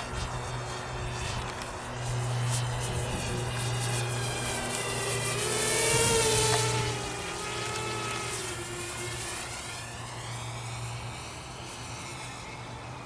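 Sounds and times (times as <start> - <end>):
quadcopter propellers whining: 0.0 - 13.0.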